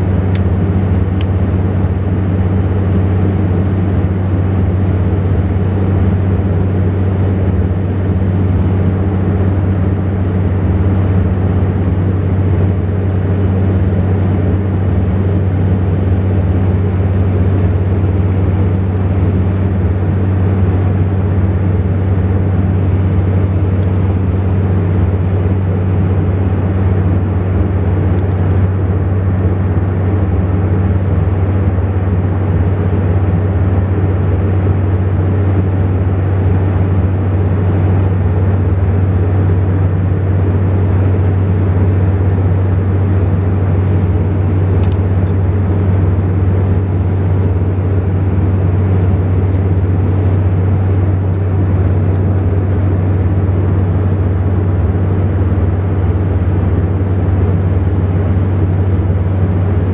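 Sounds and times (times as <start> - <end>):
turboprop engines droning: 0.0 - 59.9.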